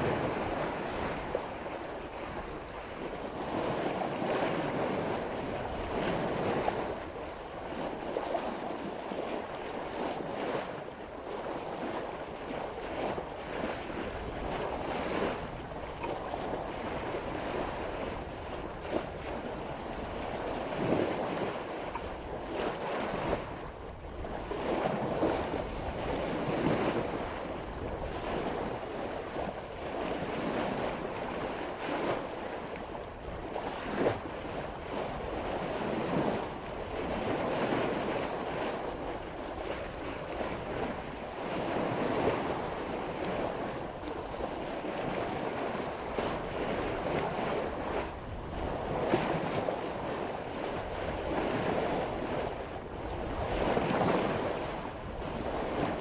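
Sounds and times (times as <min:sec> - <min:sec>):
water splashing along boat hull: 0:00.0 - 0:56.0
wind rumbling on microphone: 0:00.0 - 0:56.0.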